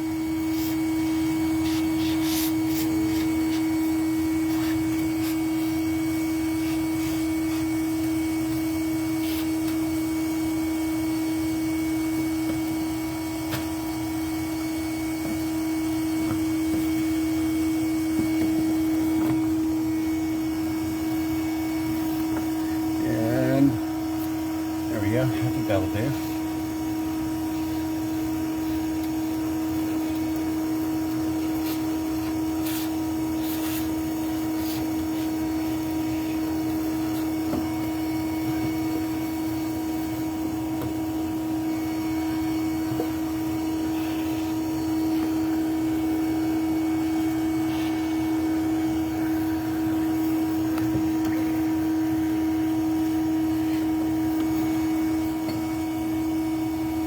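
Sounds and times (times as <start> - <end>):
electric vacuum motor humming: 0.0 - 57.0.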